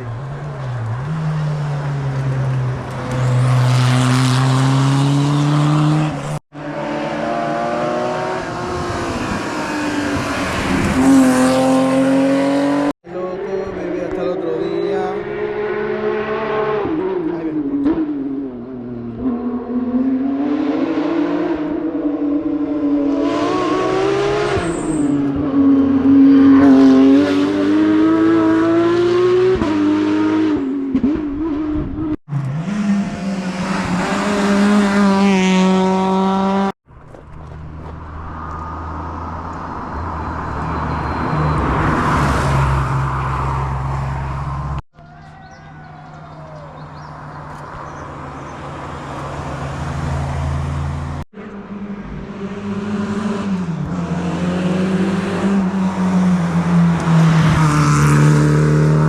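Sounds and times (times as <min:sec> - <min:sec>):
rally cars passing at full throttle: 0:00.0 - 0:36.8, 0:37.6 - 0:44.8, 0:46.1 - 0:59.0.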